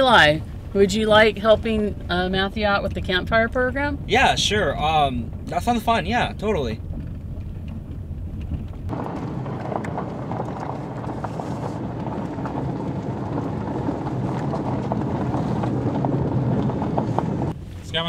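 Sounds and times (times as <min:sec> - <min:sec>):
low engine drone: 0:00.0 - 0:18.0
road and wind noise: 0:00.0 - 0:18.0.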